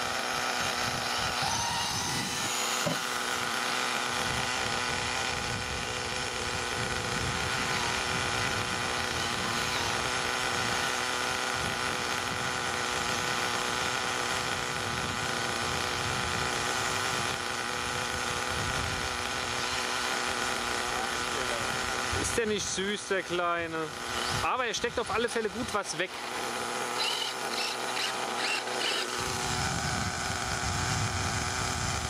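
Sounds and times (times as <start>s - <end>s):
small nitro engine buzzing: 0.0s - 32.0s.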